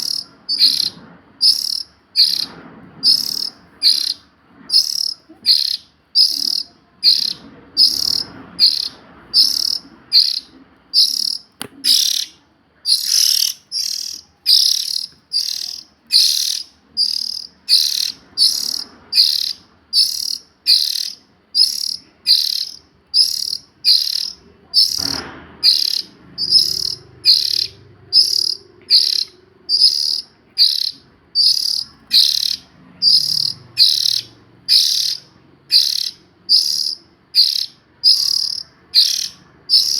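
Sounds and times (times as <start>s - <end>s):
bird short high calls: 0.0s - 39.9s.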